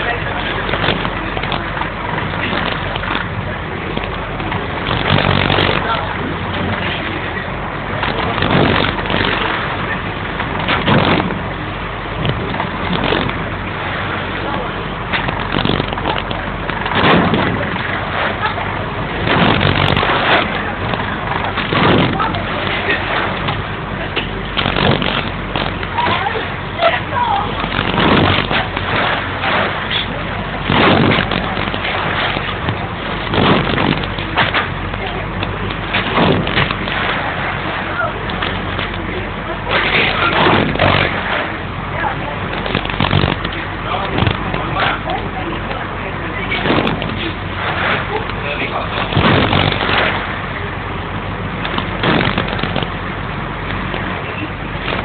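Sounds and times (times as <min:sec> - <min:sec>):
wind noise on microphone: 0:00.0 - 0:26.8, 0:27.4 - 0:48.3, 0:48.9 - 0:55.0
ferry engine humming: 0:00.0 - 0:55.0
loud rushing noise: 0:00.0 - 0:55.0.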